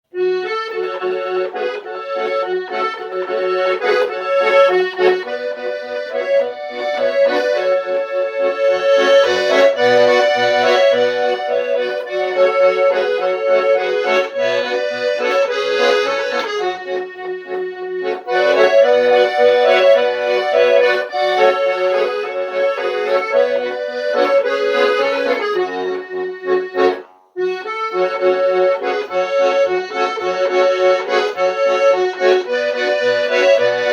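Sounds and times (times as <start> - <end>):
button accordion playing tune: 0.1 - 33.9.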